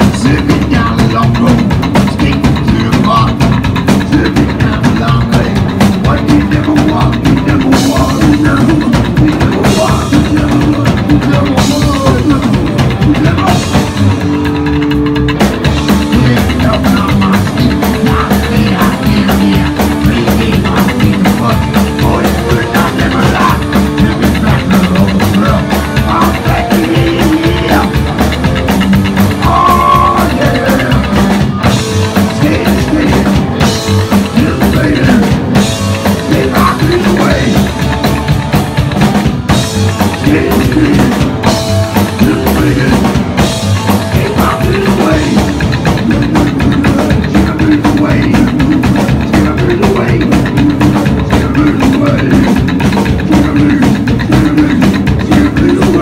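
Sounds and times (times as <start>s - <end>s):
drum kit beating: 0.0s - 56.0s
electric guitar: 0.0s - 56.0s
person singing: 0.0s - 56.0s.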